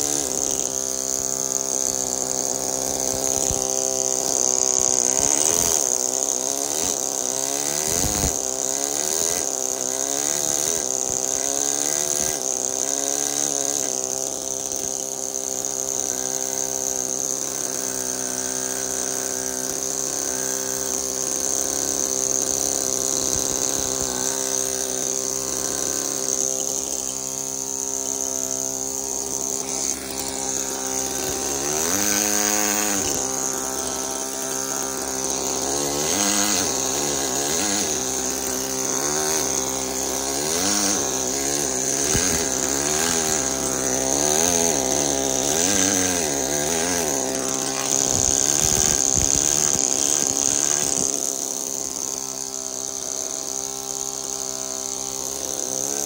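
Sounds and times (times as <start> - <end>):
pneumatic hammer chiselling marble: 0.0 - 56.0.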